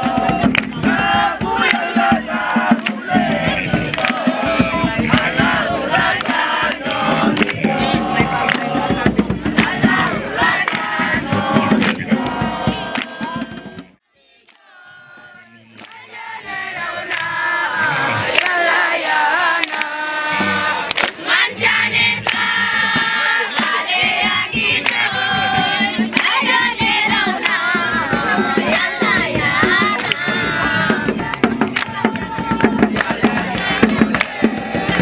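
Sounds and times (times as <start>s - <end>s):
sharp beats: 0.0s - 13.9s, 19.5s - 35.0s
group of voices singing: 0.0s - 35.0s.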